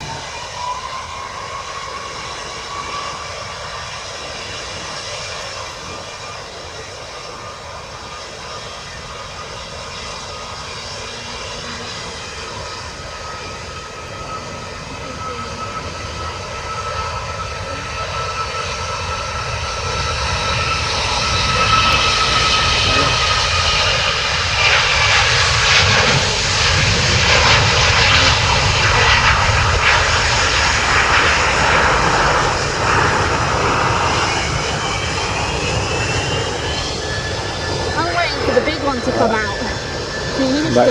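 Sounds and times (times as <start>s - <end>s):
jet engines whining: 0.0s - 40.9s.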